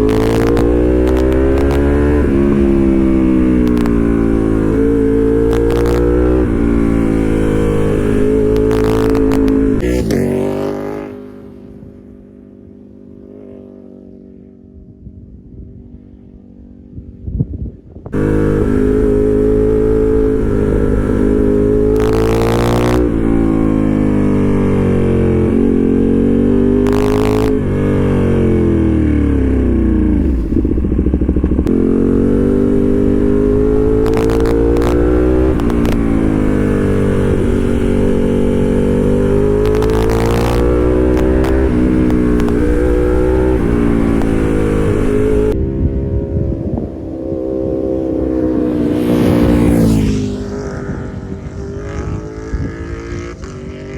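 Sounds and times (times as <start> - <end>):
motorcycle engine revving: 0.0 - 14.8, 18.1 - 53.9.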